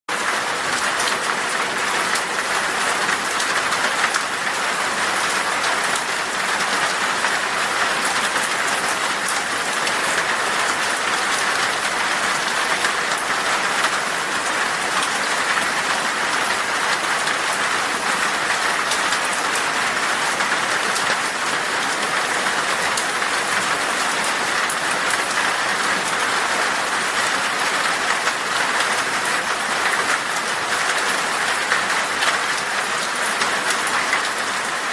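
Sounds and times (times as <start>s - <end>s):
heavy rain on glass: 0.1s - 34.9s.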